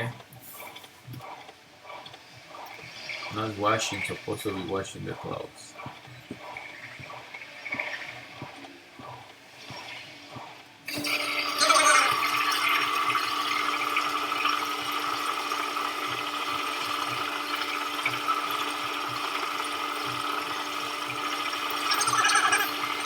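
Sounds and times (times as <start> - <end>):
motor hum: 0.0 - 23.0
washing machine water rushing: 0.0 - 23.0.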